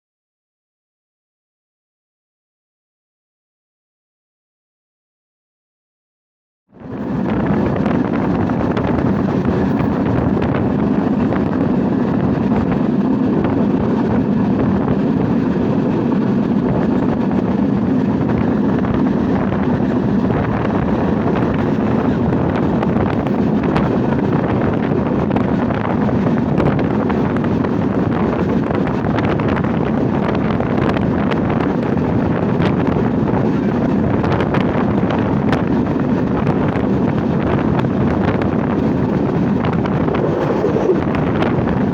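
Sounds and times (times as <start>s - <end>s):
train rumbling in motion: 6.8s - 41.9s
wind buffeting microphone: 6.8s - 41.9s.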